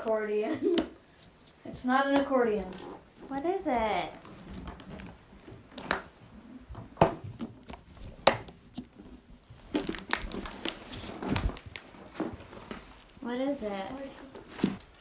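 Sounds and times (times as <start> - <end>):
rustling: 1.0 - 15.0.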